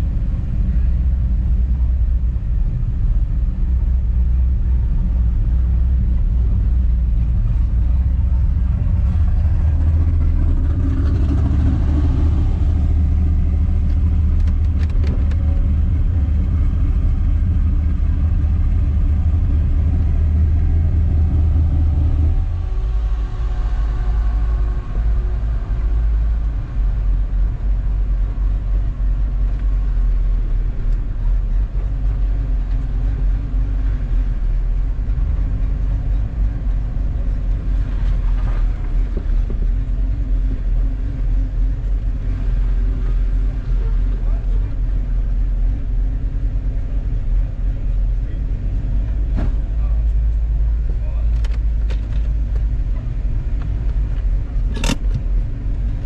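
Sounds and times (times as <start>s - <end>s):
car engine rumble: 0.0s - 56.0s
road noise: 0.0s - 56.0s.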